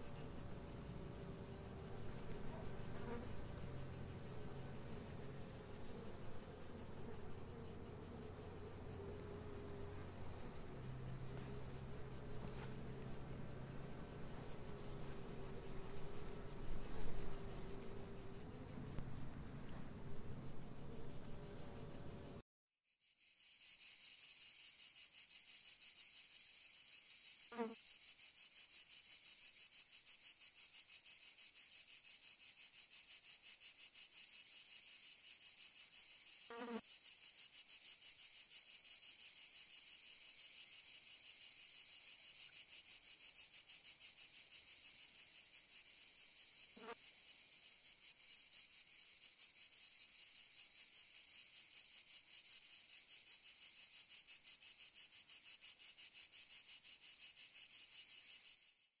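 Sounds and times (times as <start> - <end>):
cicadas buzzing: 0.0 - 22.4, 23.0 - 59.0.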